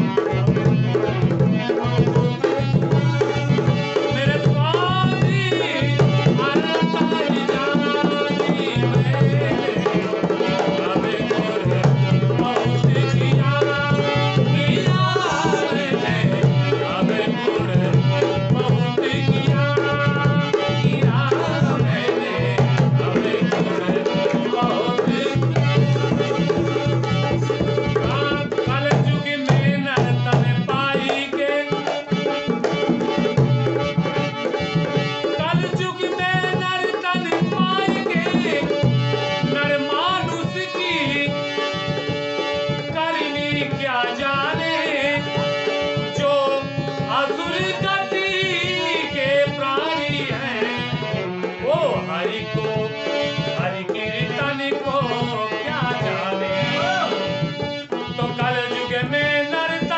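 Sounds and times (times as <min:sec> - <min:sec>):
dholak drum beating: 0:00.0 - 0:59.9
harmonium notes: 0:00.0 - 0:59.9.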